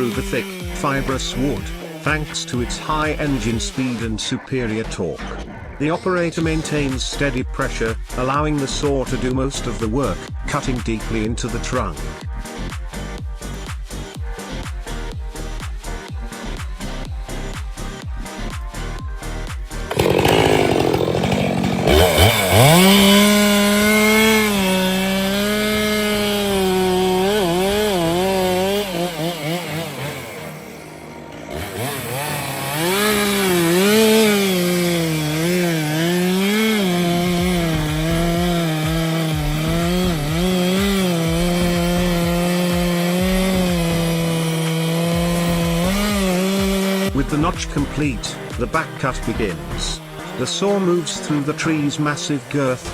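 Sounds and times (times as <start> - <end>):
chainsaw cutting wood: 0.0 - 5.2, 6.2 - 52.9.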